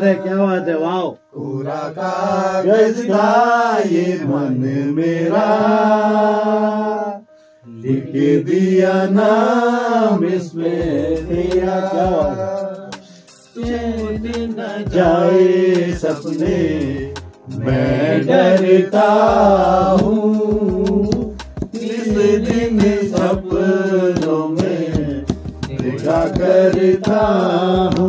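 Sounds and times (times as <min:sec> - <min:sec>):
men singing without instruments: 0:01.2 - 0:28.0.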